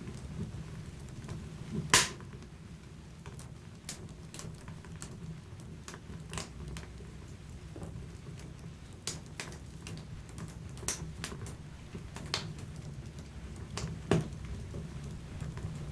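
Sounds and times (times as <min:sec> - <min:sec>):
fire crackling in a fireplace: 0:00.0 - 0:15.9.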